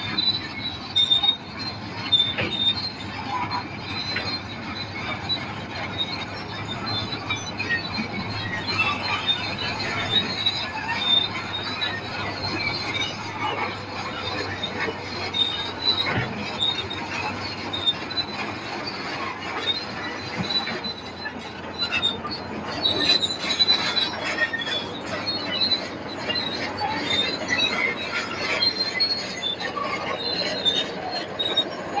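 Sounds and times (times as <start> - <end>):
bulldozer engine drone: 0.0 - 32.0
bulldozer tracks squealing and clanking: 0.0 - 32.0.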